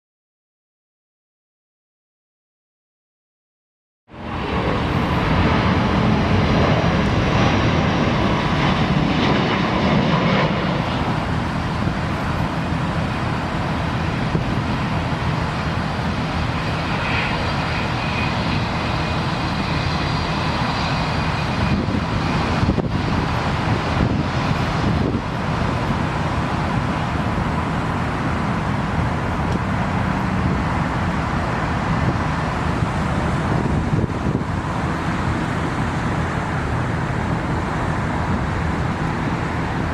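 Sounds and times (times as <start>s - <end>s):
jet engine rumble: 4.1s - 39.9s
wind on microphone: 4.1s - 39.9s.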